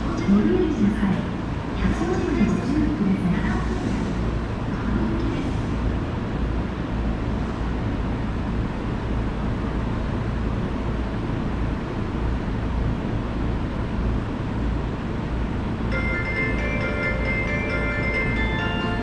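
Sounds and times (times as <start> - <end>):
commuter train rumble: 0.0 - 19.0
station platform noise: 0.0 - 19.0.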